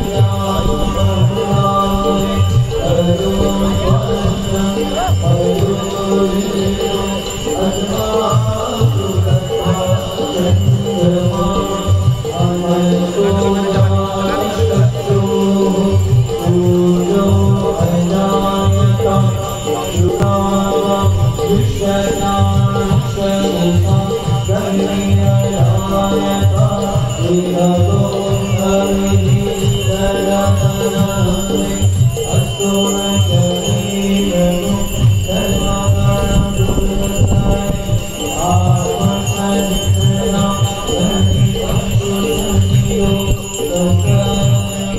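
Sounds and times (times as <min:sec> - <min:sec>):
high jingling: 0:00.0 - 0:44.9
steady drum beat: 0:00.0 - 0:44.9
voices singing a chant: 0:00.0 - 0:44.9.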